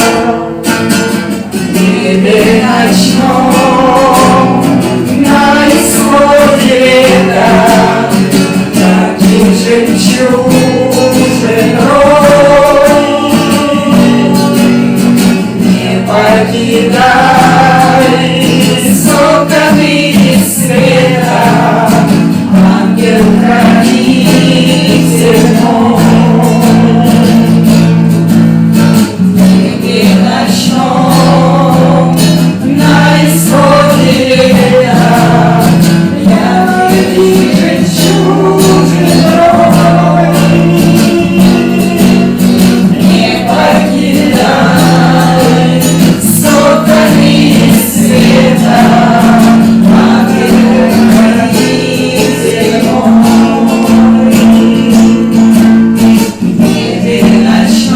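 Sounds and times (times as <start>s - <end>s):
voices singing slow song: 0.0s - 57.9s.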